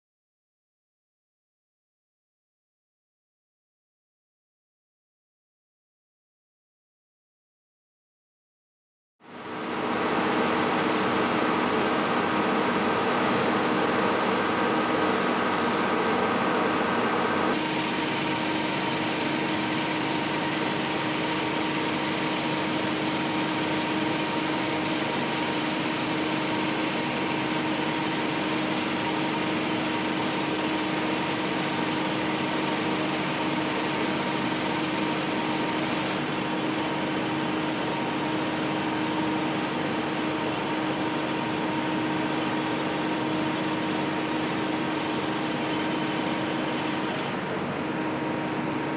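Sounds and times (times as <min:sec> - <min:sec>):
machine drone: 0:09.2 - 0:48.9.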